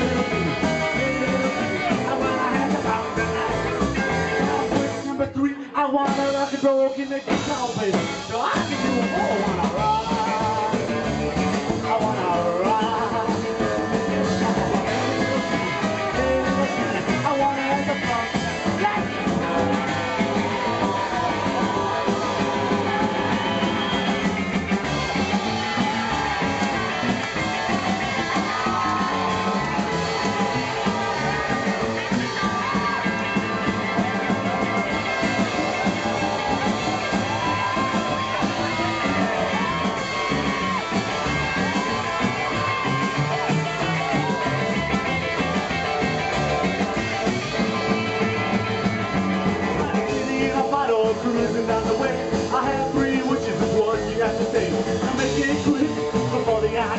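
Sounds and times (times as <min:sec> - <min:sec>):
upright double bass: 0:00.0 - 0:05.2, 0:06.1 - 0:56.9
drums: 0:00.0 - 0:56.9
electric guitar: 0:00.0 - 0:56.9.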